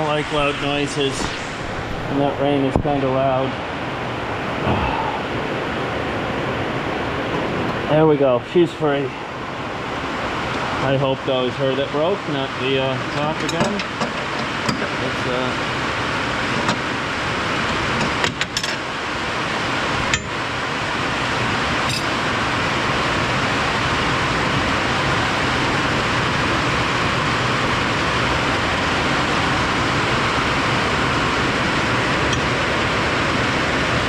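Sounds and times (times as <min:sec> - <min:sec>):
loud rain: 0:00.0 - 0:07.9, 0:13.8 - 0:34.0.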